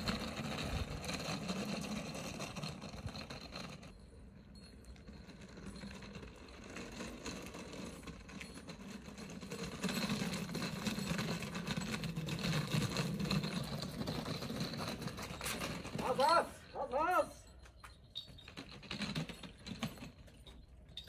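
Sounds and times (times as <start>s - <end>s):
suitcase rolling over stone: 0.0s - 16.5s, 17.8s - 21.0s.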